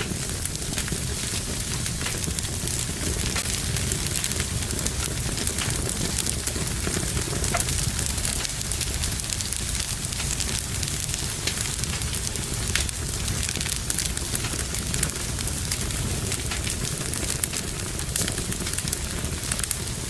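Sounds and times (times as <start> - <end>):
fire burning with crackling: 0.0 - 20.0
fire popping: 0.0 - 20.0.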